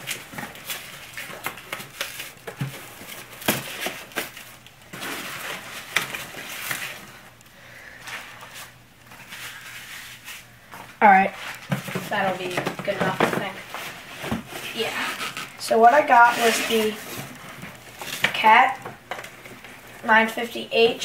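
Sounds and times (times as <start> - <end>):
foam packing peanuts rustling: 0.0 - 21.0.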